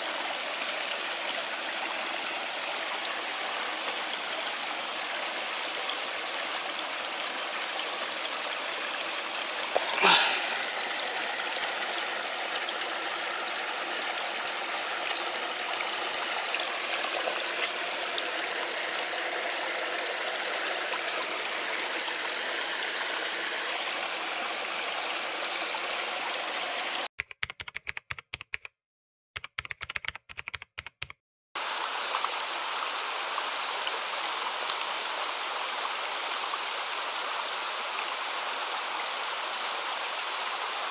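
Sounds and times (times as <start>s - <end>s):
stream rushing over rocks: 0.0s - 27.0s, 31.6s - 40.9s.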